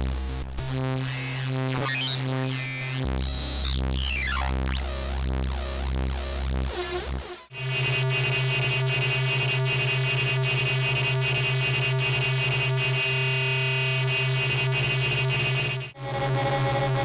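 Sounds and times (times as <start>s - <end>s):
buzzy glitchy electronic drone: 0.0s - 17.0s.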